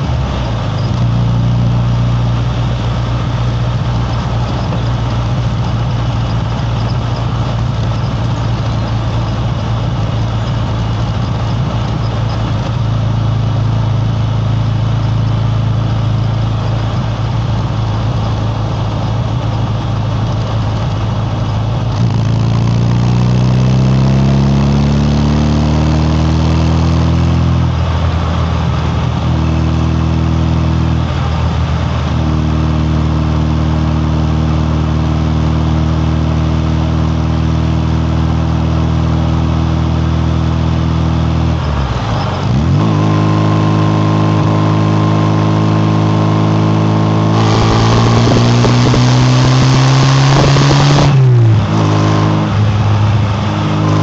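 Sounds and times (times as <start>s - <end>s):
car exhaust revving: 0.0s - 54.0s.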